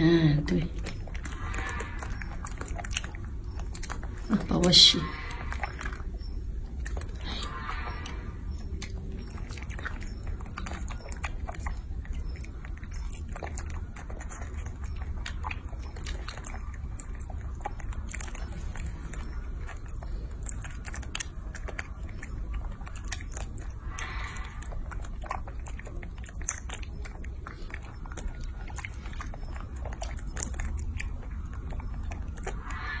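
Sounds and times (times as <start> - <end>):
monkey sucking and chewing: 0.0 - 33.0
wet smacking mouth sounds: 0.1 - 33.0.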